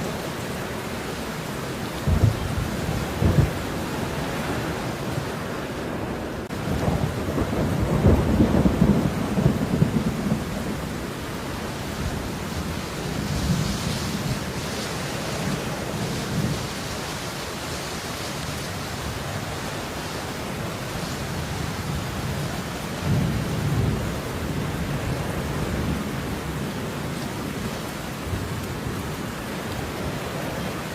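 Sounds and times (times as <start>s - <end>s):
steady rain: 0.0s - 30.9s
rolling thunder rumble: 2.0s - 17.3s, 20.5s - 30.9s.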